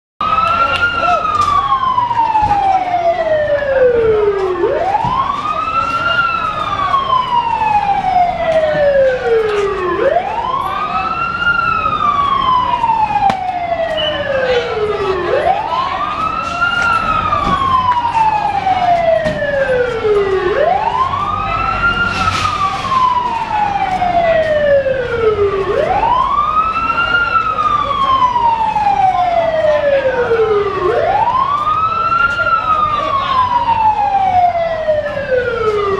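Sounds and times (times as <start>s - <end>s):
emergency vehicle siren wailing: 0.2s - 35.9s.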